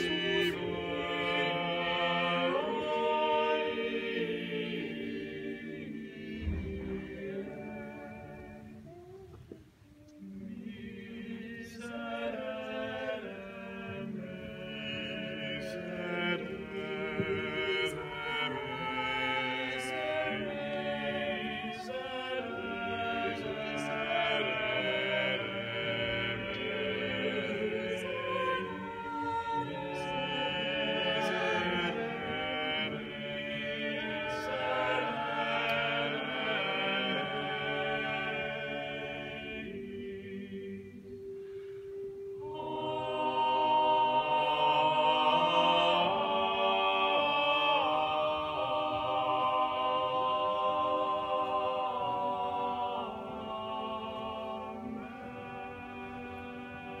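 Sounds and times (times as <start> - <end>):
choir singing unaccompanied: 0.0 - 57.0.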